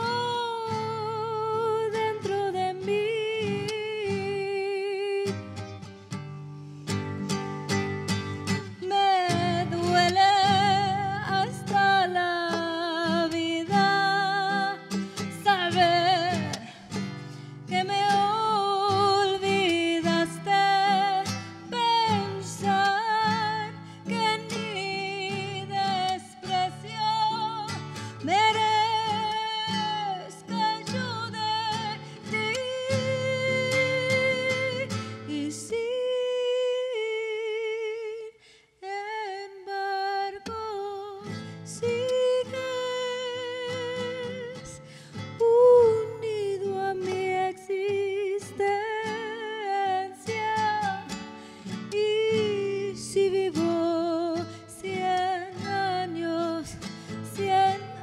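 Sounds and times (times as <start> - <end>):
woman singing wordless melody: 0.0 - 6.3, 6.9 - 58.0
strummed acoustic guitar: 0.0 - 36.8, 40.1 - 58.0.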